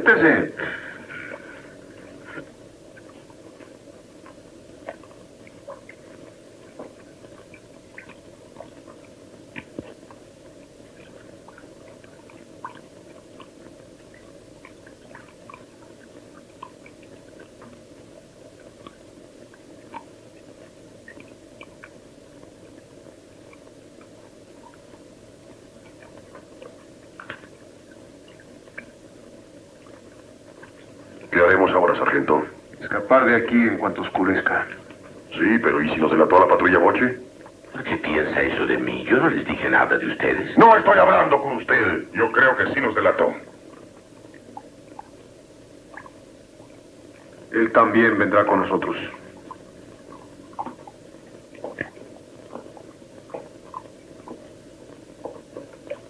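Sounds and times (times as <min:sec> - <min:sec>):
steady low hiss: 0:00.0 - 0:56.0
faint clicks and ticks: 0:00.6 - 0:56.0.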